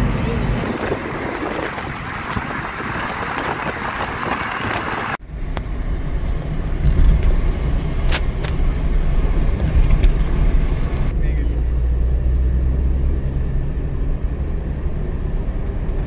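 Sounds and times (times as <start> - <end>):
low car rumble: 0.0 - 16.0
wind and tyre road noise: 0.0 - 16.0.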